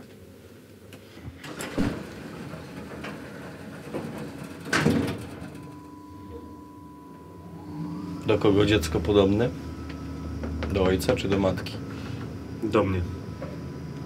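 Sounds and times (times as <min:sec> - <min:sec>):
steady hum: 0:01.7 - 0:14.0.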